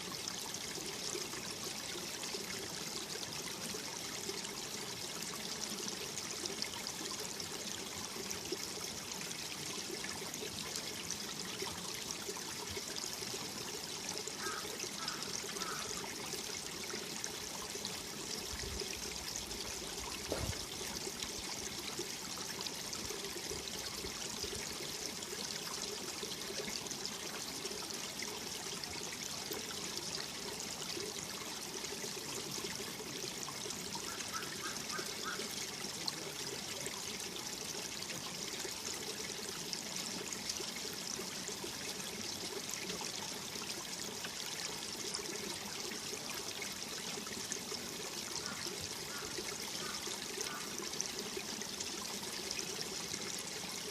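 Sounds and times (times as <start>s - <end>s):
stream running over rocks: 0.0s - 53.9s.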